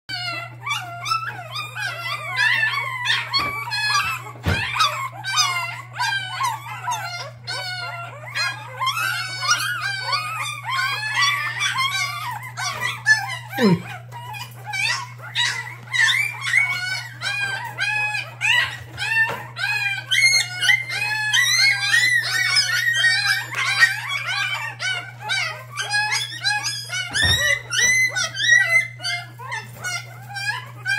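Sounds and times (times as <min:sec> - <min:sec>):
puppies crying and squealing: 0:00.1 - 0:30.9.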